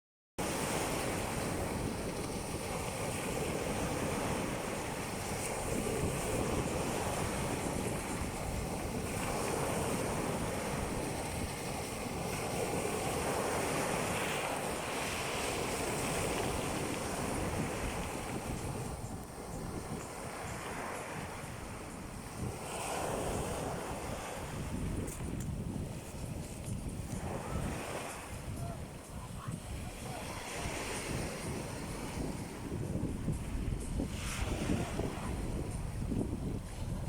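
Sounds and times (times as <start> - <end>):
sea waves breaking on shore: 0.4 - 37.0
wind buffeting microphone: 0.4 - 37.0.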